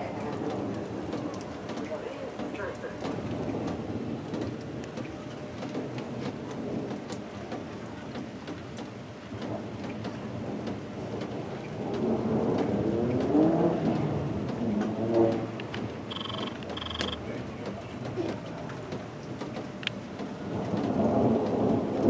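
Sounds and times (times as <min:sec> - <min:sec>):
raindrops ticking close by: 0:00.0 - 0:22.0
steady rain falling: 0:00.0 - 0:22.0
thunder rumbling: 0:02.3 - 0:22.0.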